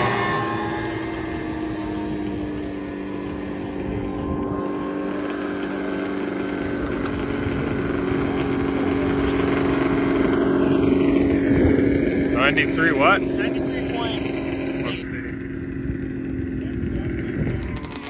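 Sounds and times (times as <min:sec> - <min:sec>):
snowmobile engine at high revs: 0:00.0 - 0:18.0.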